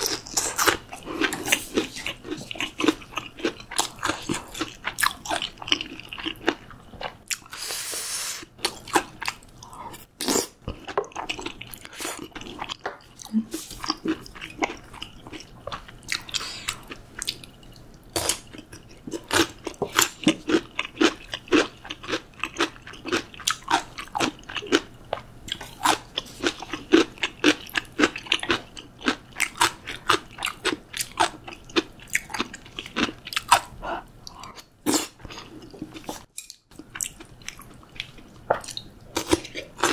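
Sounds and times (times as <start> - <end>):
crunching and chewing food: 0.0 - 7.7, 8.4 - 39.9.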